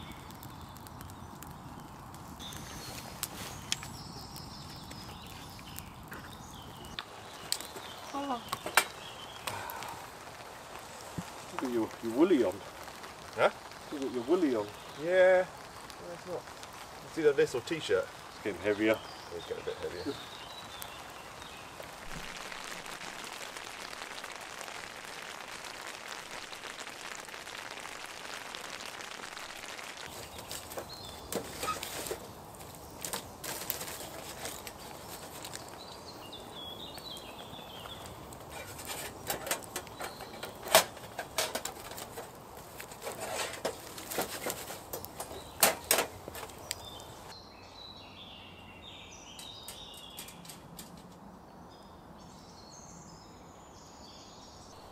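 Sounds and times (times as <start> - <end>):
birds chirping: 0.0 - 27.4, 29.6 - 54.9
fire crackling and popping: 0.0 - 47.4, 49.2 - 51.4
rain falling: 0.0 - 47.4.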